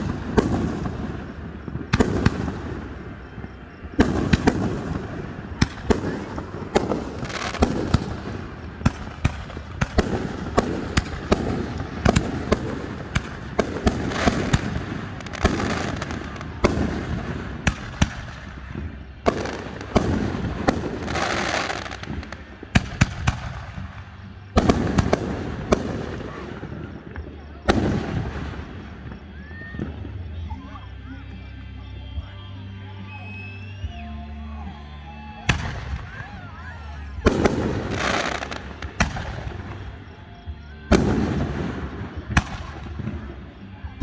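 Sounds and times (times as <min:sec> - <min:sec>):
fireworks bursting: 0:00.0 - 0:30.4, 0:34.7 - 0:40.2, 0:40.8 - 0:44.0.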